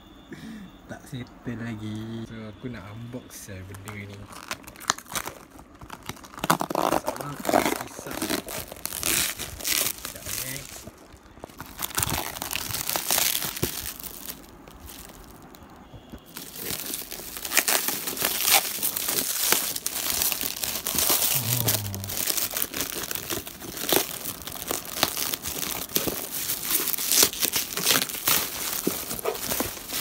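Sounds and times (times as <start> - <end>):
plastic wrapping crinkling and tearing: 3.5 - 30.0.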